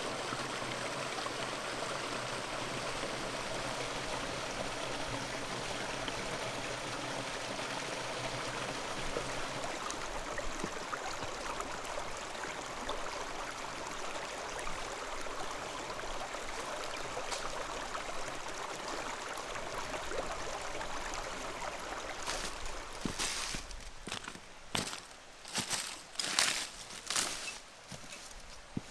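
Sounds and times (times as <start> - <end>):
running water: 0.0 - 28.9.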